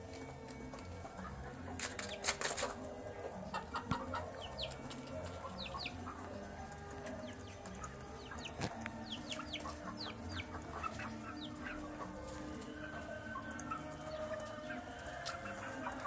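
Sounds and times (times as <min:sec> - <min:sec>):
chicks peeping: 0:00.0 - 0:16.0
hen clucking: 0:00.5 - 0:16.0.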